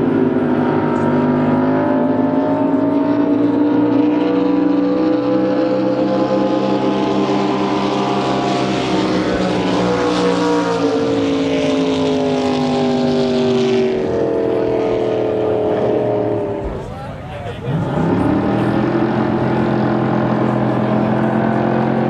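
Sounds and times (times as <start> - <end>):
racing boat engine running: 0.0 - 22.0.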